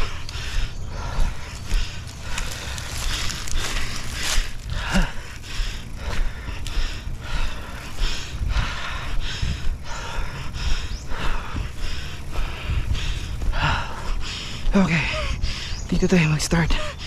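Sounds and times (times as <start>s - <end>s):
person panting hard: 0.0s - 15.9s, 16.7s - 17.0s.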